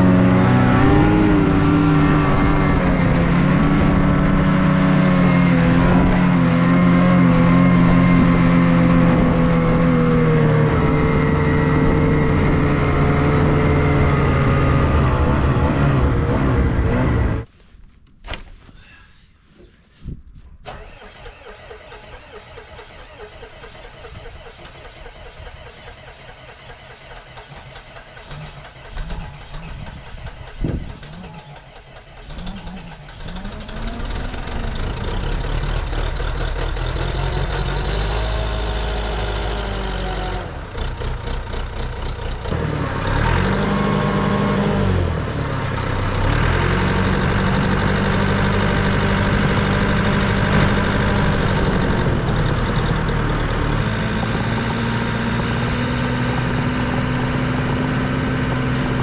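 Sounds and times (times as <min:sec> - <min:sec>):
snow groomer engine: 0:00.0 - 0:17.5, 0:20.7 - 0:59.0.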